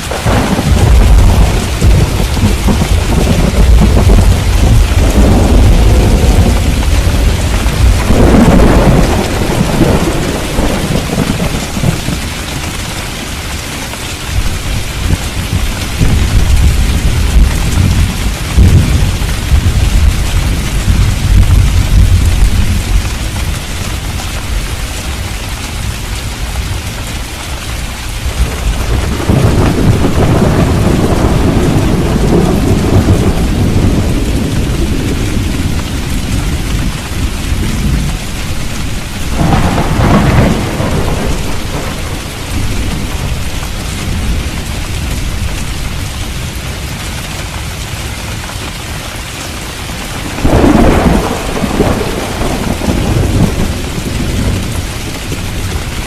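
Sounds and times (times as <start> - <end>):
thunder rumbling: 0.0 - 27.0, 27.7 - 48.0, 49.8 - 56.0
steady rain: 0.0 - 56.0.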